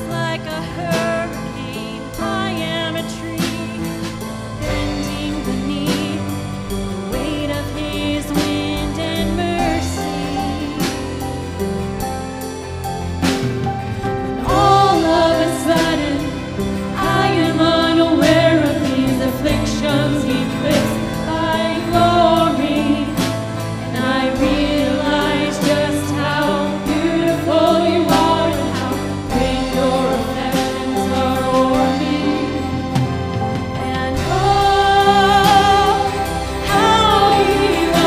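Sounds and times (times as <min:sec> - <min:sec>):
voices singing worship song: 0:00.0 - 0:12.0, 0:14.3 - 0:38.0
bass and keyboard chords: 0:00.0 - 0:38.0.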